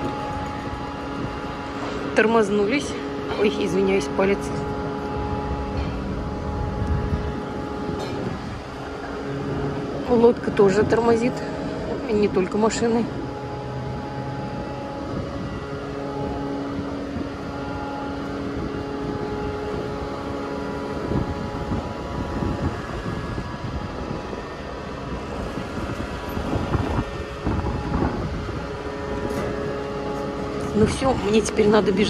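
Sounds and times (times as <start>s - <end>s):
ferry engines humming: 0.0s - 32.0s
wind rumbling on microphone: 0.0s - 32.0s.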